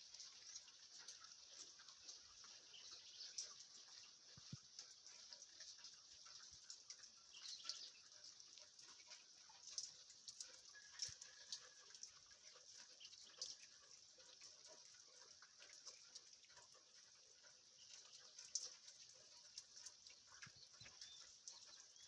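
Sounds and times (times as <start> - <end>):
light rain hiss: 0.0 - 22.0
raindrops ticking: 0.0 - 22.0.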